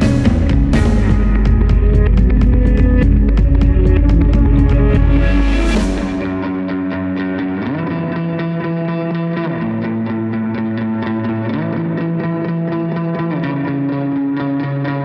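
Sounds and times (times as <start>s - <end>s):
distorted electric guitar chords: 0.0s - 15.0s
strummed rhythm guitar: 0.0s - 15.0s.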